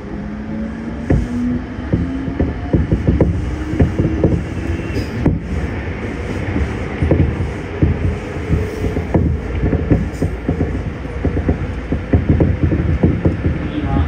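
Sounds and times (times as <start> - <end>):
train rumble in tunnel: 0.0 - 14.0
wheels clacking on rails: 0.8 - 14.0.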